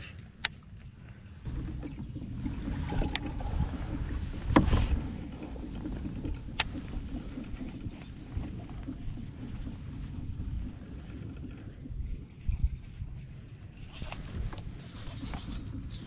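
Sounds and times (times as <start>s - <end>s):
clothing rubbing on camera: 2.3s - 16.0s.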